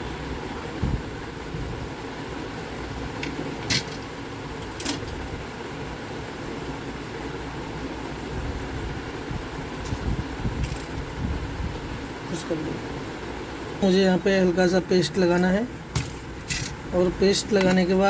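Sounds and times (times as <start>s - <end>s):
fan whirring: 0.0s - 18.0s.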